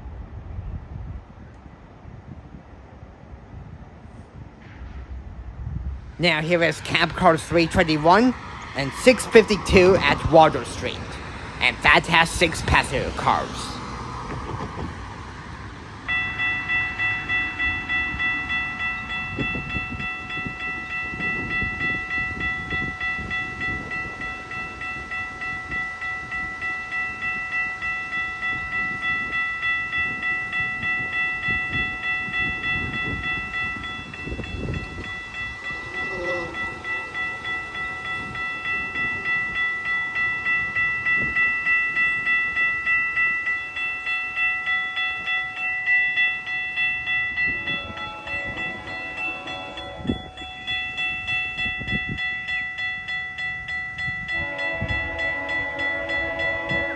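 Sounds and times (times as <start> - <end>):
train passing with rail clatter: 0.0 - 56.9
level crossing bell ringing: 6.2 - 14.1, 16.1 - 56.9.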